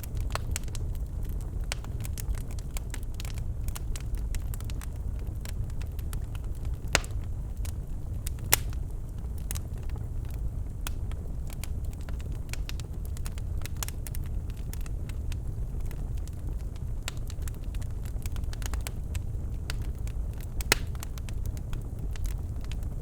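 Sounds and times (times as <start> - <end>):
burning logs crackling: 0.0 - 23.0
fire rumbling: 0.0 - 23.0
loud pops from fire: 0.0 - 23.0.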